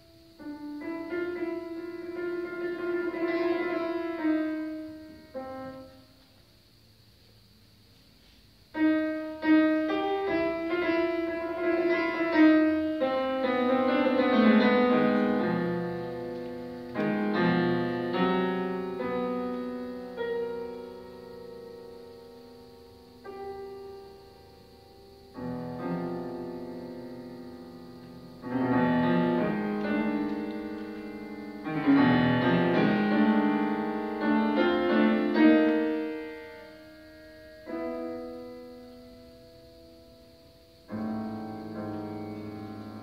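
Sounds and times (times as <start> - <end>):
grand piano playing: 0.0 - 6.2, 8.8 - 43.0.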